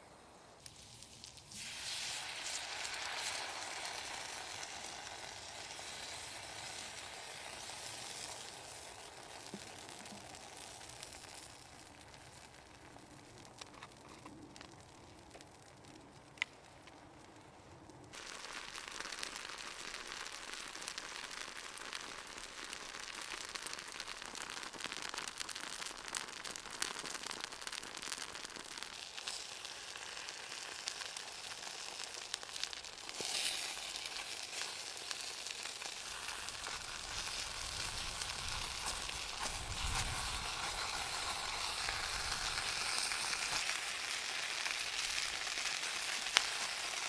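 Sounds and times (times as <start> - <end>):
food sizzling in a pan: 0.0 - 12.7, 18.1 - 47.0
frying crackling: 0.0 - 47.0.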